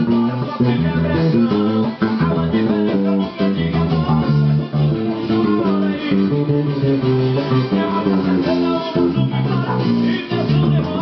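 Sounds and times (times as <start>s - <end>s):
electric bass guitar groove: 0.0s - 11.0s.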